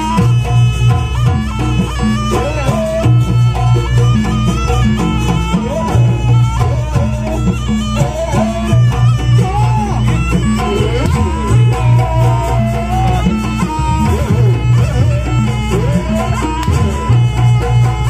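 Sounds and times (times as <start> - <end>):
low drum and gong beat: 0.0 - 18.0
nasal reed-pipe melody: 0.0 - 18.0.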